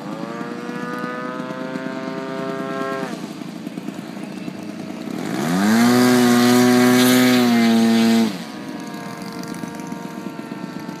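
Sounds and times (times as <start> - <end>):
model airplane engine passing: 0.0 - 11.0.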